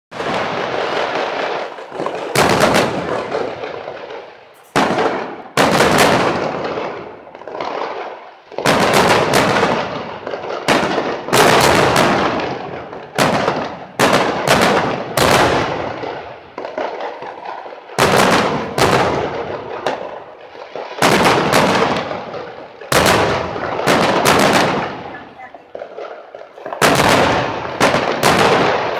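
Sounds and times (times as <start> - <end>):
firework shells bursting: 0.1 - 28.9.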